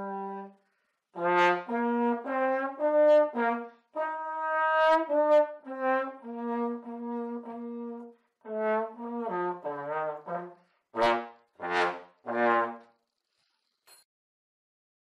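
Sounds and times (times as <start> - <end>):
brass instruments playing: 0.0 - 0.5, 1.2 - 12.9.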